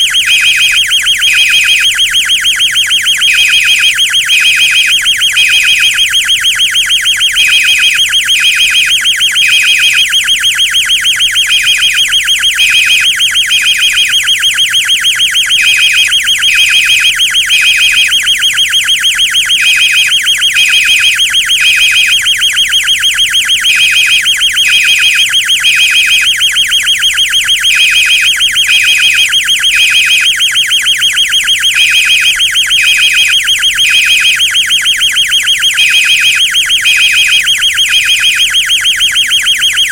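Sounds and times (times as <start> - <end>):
fire alarm beeping: 0.0 - 39.9
fire alarm warbling tone: 0.0 - 39.9.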